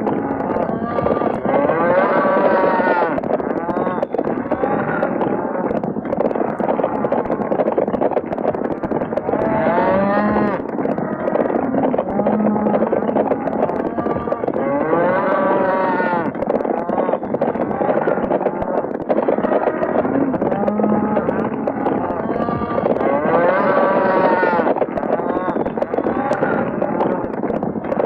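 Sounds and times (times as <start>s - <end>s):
cattle bawling: 0.0s - 7.5s, 8.1s - 18.6s, 19.2s - 27.4s
rumble of running hooves: 0.0s - 28.0s.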